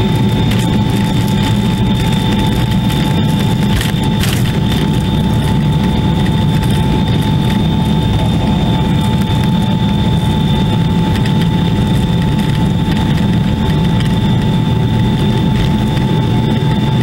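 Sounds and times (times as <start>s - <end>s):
cabin rumbling over rough runway: 0.0s - 17.0s
jet engines rumbling and whining: 0.0s - 17.0s.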